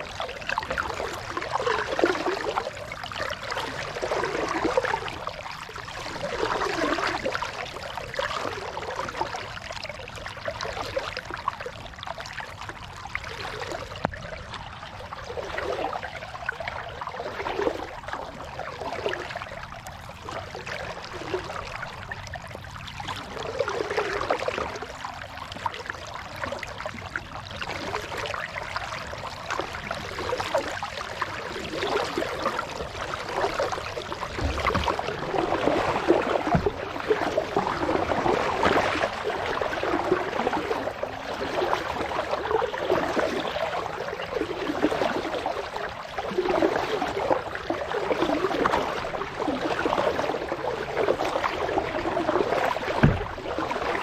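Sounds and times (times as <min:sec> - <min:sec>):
paddle splashing water: 0:00.0 - 0:54.0.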